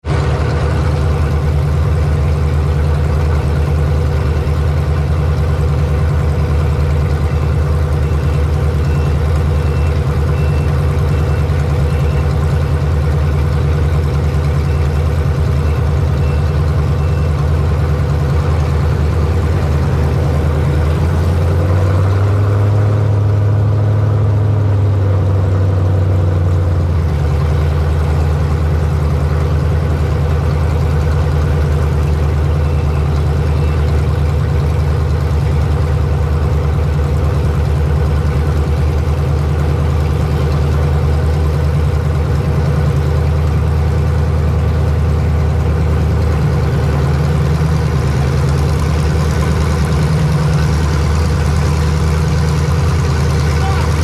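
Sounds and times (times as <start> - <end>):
racing engine running: 0.0 - 54.0.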